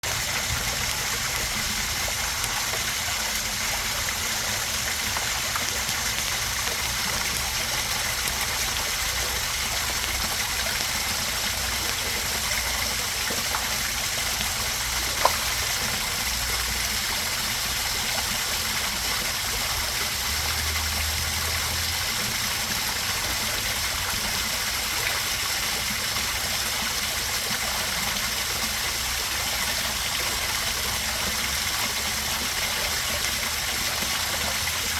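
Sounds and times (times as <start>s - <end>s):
waterfall splashing and trickling: 0.0s - 34.9s.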